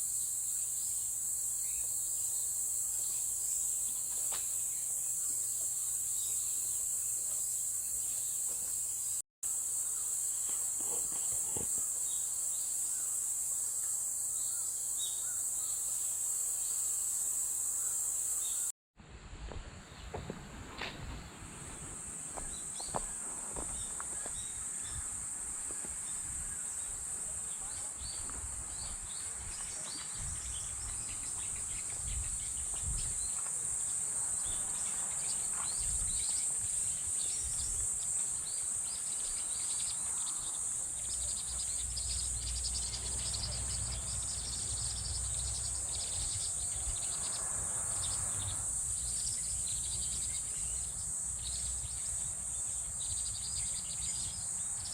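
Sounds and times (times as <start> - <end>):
insects trilling: 0.0 - 18.8, 21.3 - 54.9.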